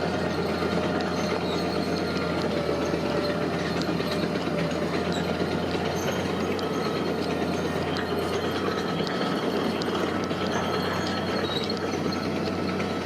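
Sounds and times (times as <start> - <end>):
heavy machinery engine drone: 0.0 - 13.0
metallic rattle and clatter: 0.0 - 13.0.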